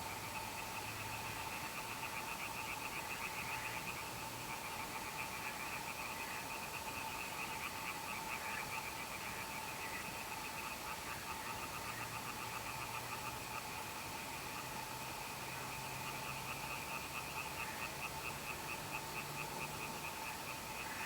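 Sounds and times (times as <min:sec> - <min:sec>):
constant hiss: 0:00.0 - 0:21.0
frogs calling: 0:00.2 - 0:21.0.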